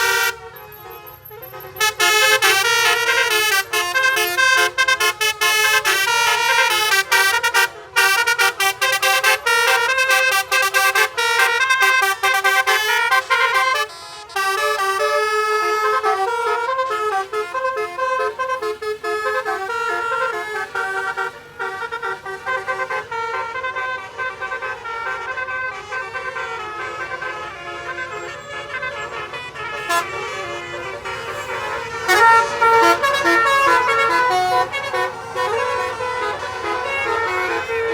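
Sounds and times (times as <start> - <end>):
multi-tone musical horn playing: 0.0 - 37.9.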